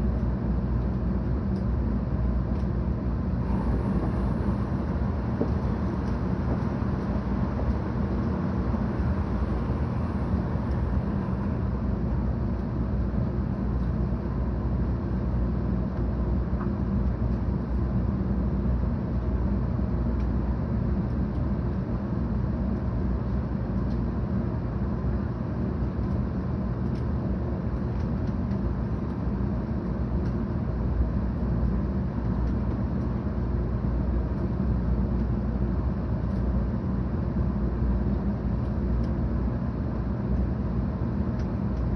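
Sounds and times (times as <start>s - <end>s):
train cabin low rumble: 0.0s - 41.9s.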